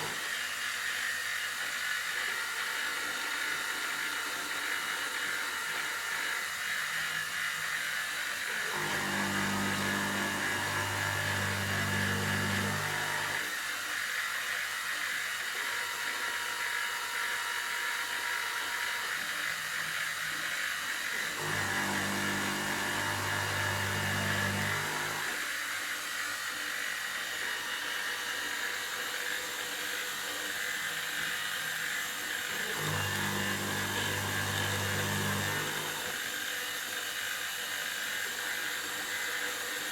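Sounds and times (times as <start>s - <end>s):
milling machine spindle cutting metal: 0.0s - 39.9s.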